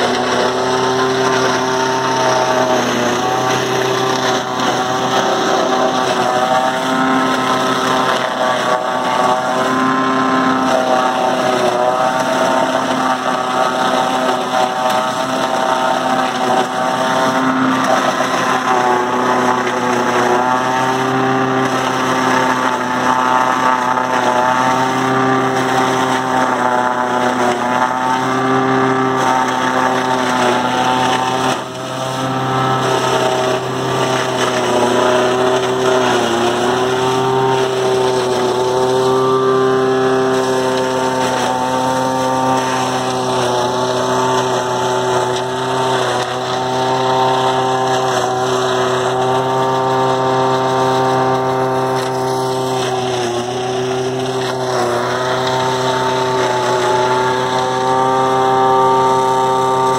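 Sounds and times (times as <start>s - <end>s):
forage chopper mechanical drone: 0.0s - 59.9s.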